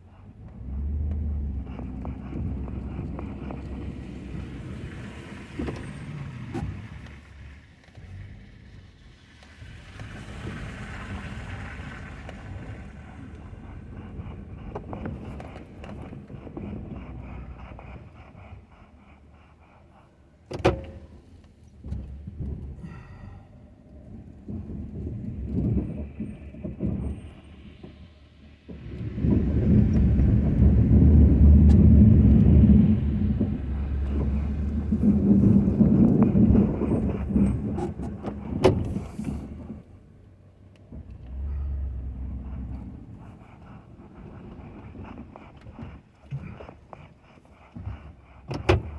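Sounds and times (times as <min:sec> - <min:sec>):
pickup truck engine running: 0:00.0 - 0:48.9.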